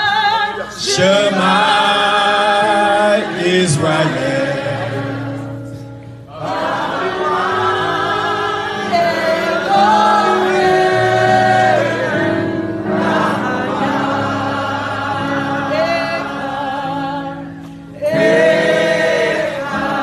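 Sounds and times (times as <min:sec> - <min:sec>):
voices singing slow song: 0:00.0 - 0:20.0.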